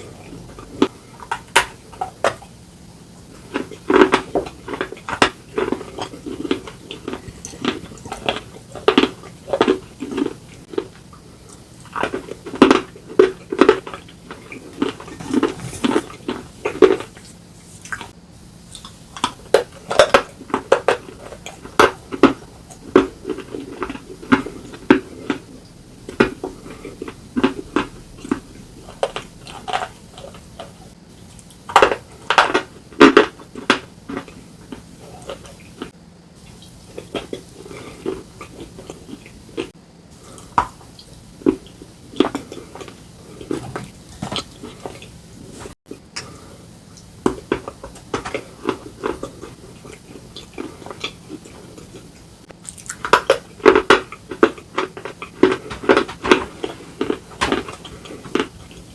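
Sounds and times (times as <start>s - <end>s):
crunchy biting and chewing: 0.0s - 58.9s.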